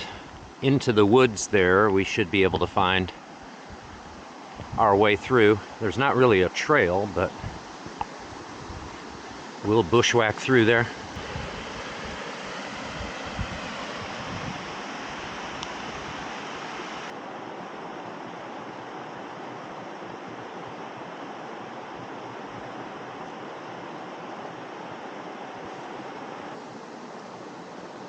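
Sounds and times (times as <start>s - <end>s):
stream rushing over cascade: 0.0s - 28.0s.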